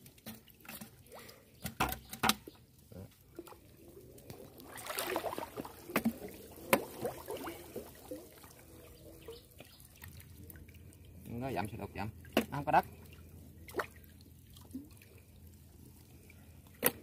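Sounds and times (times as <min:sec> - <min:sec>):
water splashing: 0:03.2 - 0:17.0.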